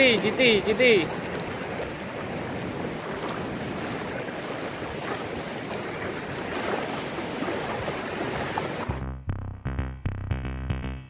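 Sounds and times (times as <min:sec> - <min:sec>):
sea surf washing on shore: 0:00.0 - 0:08.9.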